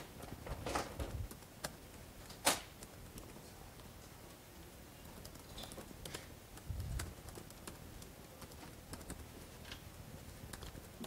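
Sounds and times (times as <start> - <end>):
laptop keyboard typing: 0.0 - 11.0.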